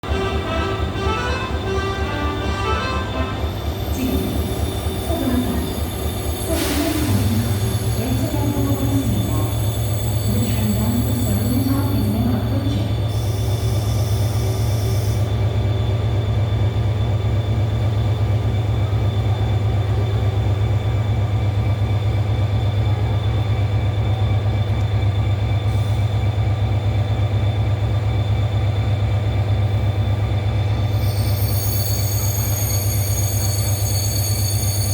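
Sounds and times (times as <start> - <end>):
train low rumble: 0.0 - 34.9.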